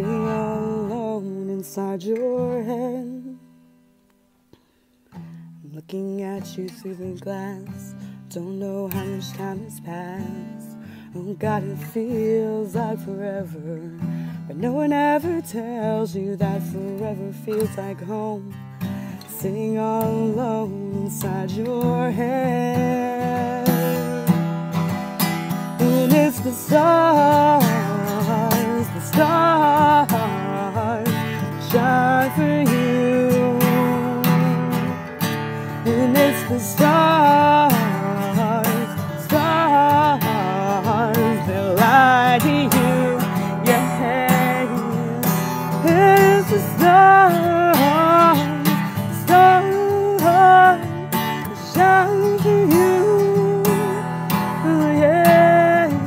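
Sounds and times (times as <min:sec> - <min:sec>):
person singing without words: 0:00.0 - 0:03.5, 0:05.6 - 0:56.0
acoustic guitar strumming: 0:00.0 - 0:56.0.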